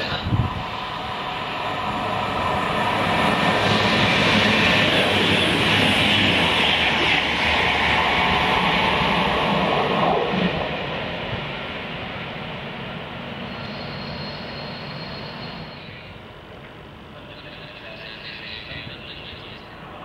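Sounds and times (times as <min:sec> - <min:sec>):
diesel train passing at speed: 0:00.0 - 0:20.0
train wheels on rails: 0:00.0 - 0:20.0.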